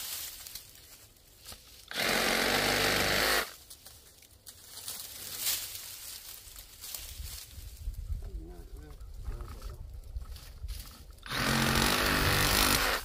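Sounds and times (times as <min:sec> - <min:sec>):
branches rustling: 0:00.0 - 0:13.0.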